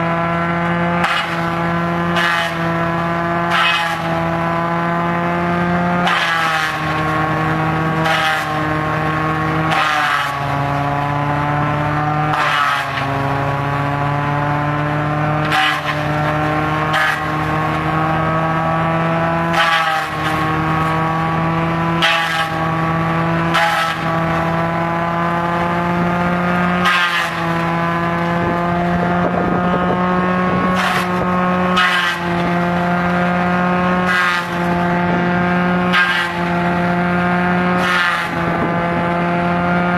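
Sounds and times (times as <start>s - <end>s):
crusher chopping palm fronds: 0.0s - 39.9s
tractor engine and cutter drone: 0.0s - 39.9s.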